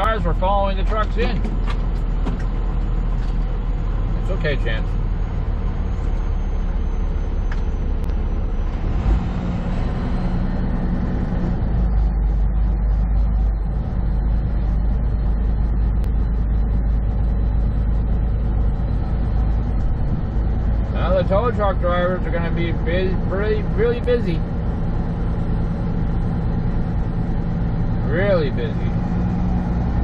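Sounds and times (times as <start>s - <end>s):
road noise: 0.0s - 30.0s
truck engine drone: 0.0s - 30.0s.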